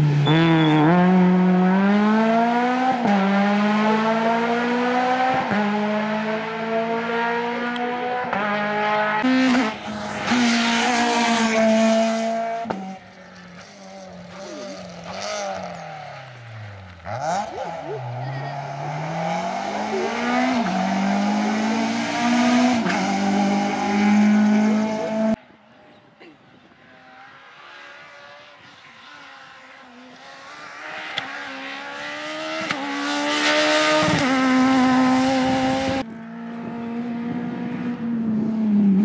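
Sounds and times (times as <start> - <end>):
rally car engine accelerating: 0.0 - 25.4, 27.0 - 39.0.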